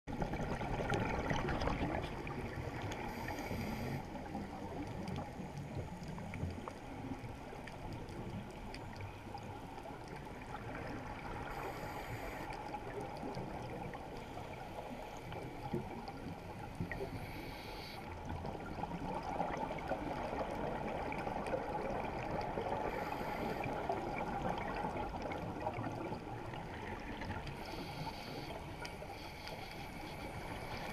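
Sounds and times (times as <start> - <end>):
low underwater rushing: 0.1 - 30.9.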